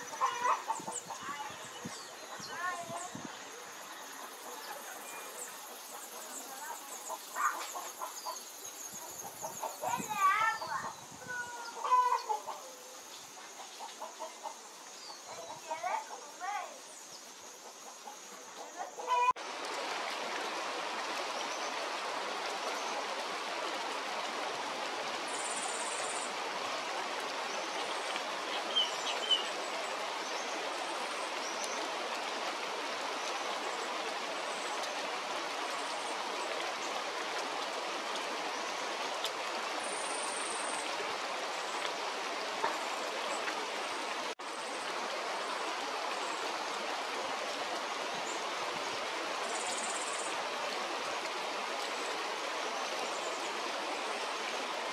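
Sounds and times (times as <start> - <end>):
running water rushing: 0.0 - 54.9.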